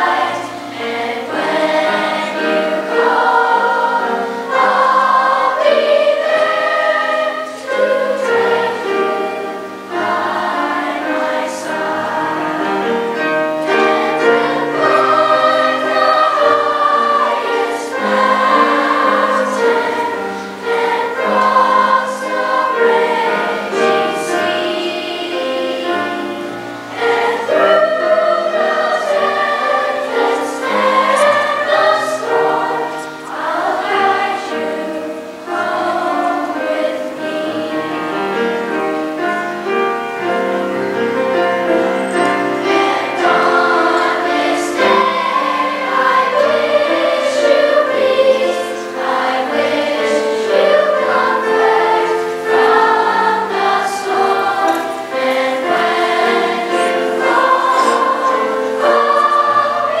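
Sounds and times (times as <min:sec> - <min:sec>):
children's choir singing: 0:00.0 - 1:00.0
grand piano accompaniment: 0:00.0 - 1:00.0.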